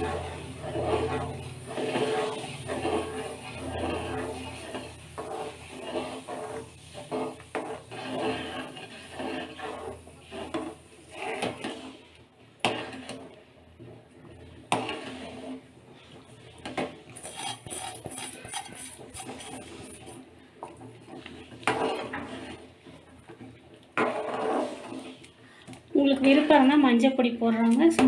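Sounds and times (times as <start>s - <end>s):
ladle scraping a metal pan: 0.0s - 13.4s, 14.7s - 26.7s.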